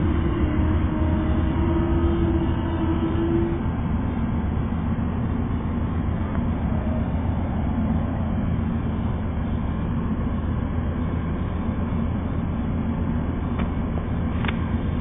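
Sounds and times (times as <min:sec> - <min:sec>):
standing train rumble: 0:00.0 - 0:15.0.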